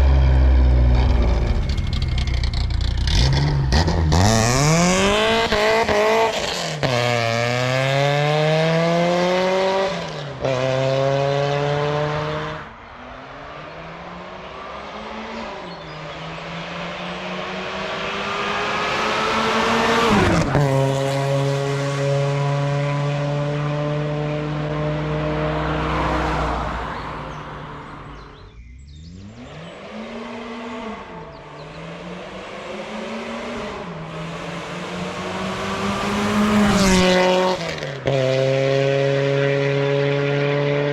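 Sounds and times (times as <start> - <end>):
supercharged car engine revving: 0.0 - 12.8, 13.5 - 40.9.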